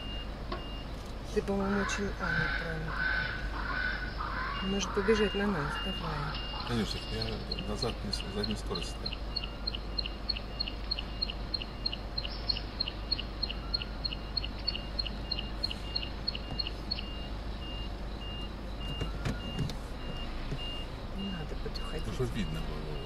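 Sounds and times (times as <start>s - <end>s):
reverse warning beeps: 0.0s - 1.5s, 4.2s - 23.0s
low engine hum: 0.0s - 23.0s.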